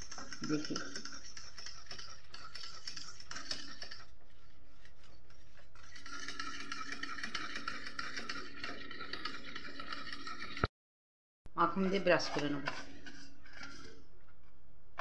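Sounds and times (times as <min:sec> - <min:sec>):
whisk beating batter in steel bowl: 0:00.0 - 0:10.7, 0:11.6 - 0:14.6.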